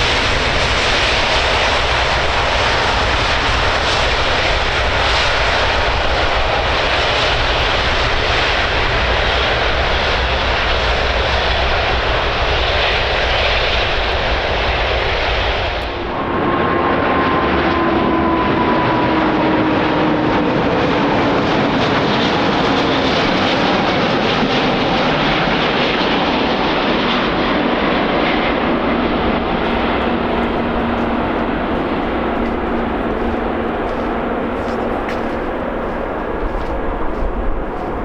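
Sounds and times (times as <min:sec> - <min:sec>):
jet airliner engines passing: 0:00.0 - 0:38.0.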